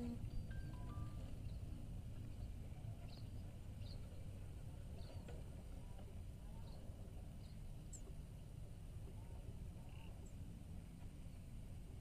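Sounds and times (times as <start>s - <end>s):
small birds chirping: 0.0s - 10.5s
steady low rumble: 0.0s - 12.0s.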